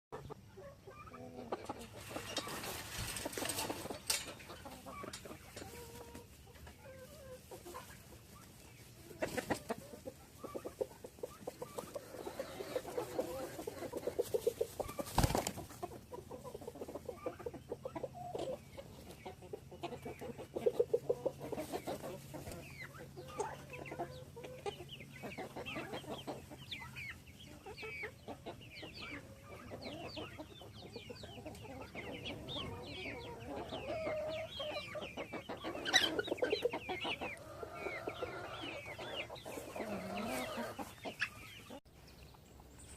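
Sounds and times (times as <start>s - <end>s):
poultry clucking: 0.1s - 42.9s.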